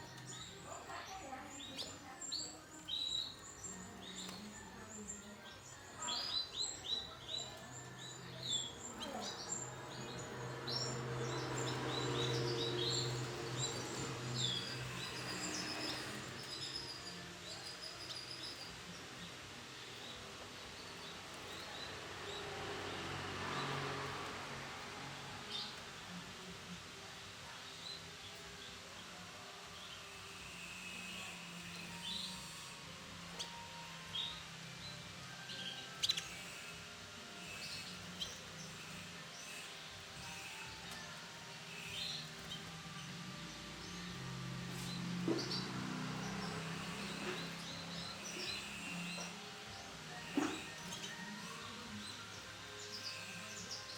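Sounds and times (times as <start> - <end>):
canaries chirping: 0.0 - 53.9.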